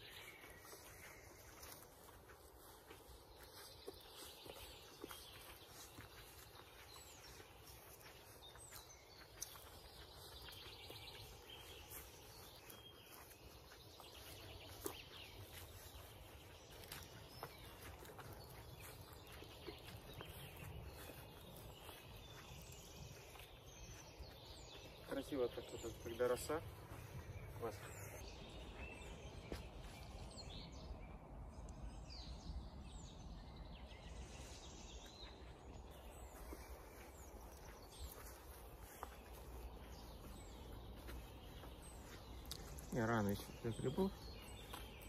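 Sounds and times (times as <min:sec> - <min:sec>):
distant birds singing: 0:00.0 - 0:45.0.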